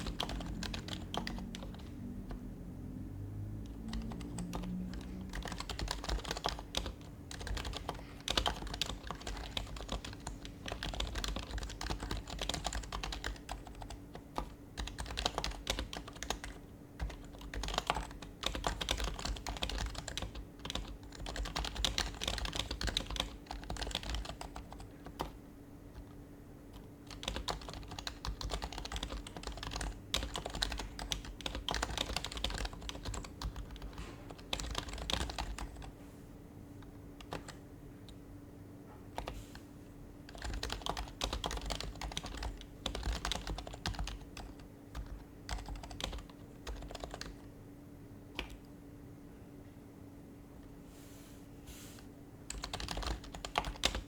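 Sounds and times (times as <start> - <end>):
soft muted keyboard typing: 0.0 - 2.6, 3.2 - 36.0, 36.6 - 47.6, 48.2 - 48.8, 52.4 - 54.0.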